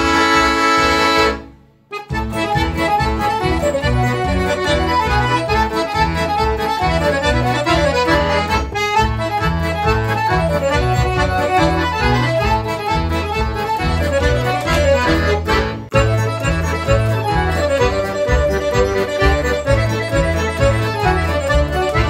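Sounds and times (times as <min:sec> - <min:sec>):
accordion playing fast medley: 0:00.0 - 0:22.0.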